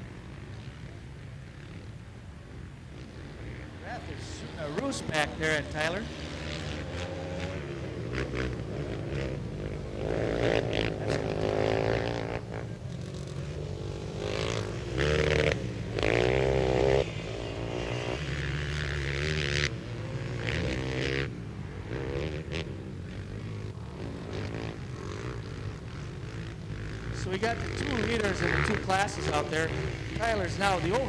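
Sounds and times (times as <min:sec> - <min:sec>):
quad engines revving past: 0:00.0 - 0:31.0.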